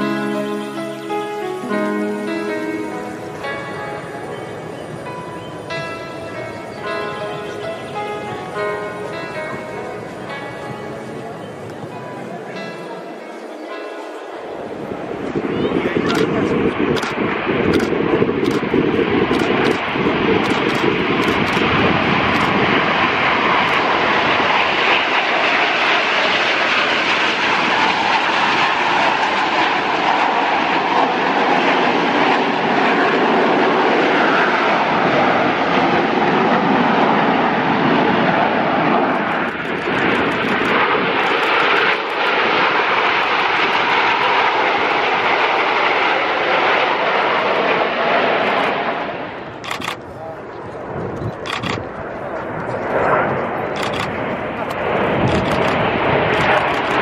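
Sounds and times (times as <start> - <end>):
aircraft engine noise overhead: 0.0 - 57.0.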